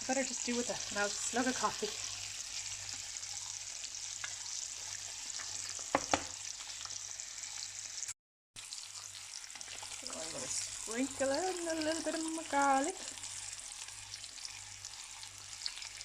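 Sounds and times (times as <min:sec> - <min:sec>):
fish sizzling in frying pan: 0:00.0 - 0:16.0.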